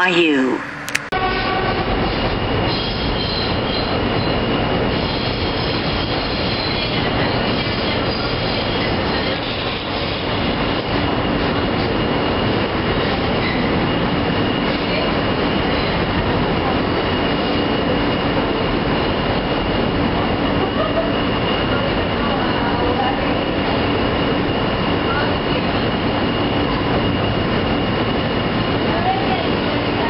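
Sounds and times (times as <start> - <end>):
train wheels rumbling on track: 1.2 - 30.0.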